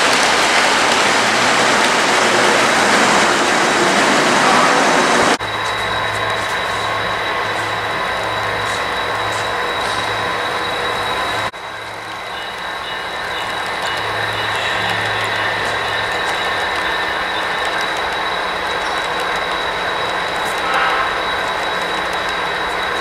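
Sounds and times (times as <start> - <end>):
thin high whine: 0.0 - 23.0
train wheels running on track: 0.0 - 23.0.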